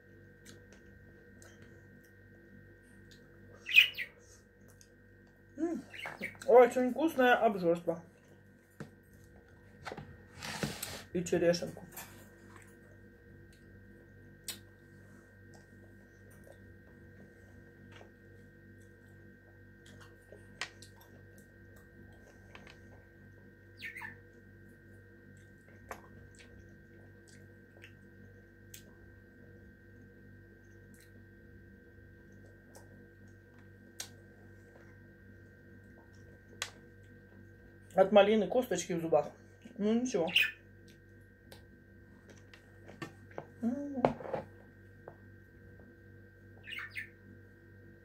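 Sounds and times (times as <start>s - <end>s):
steady faint hum: 0.0s - 48.0s.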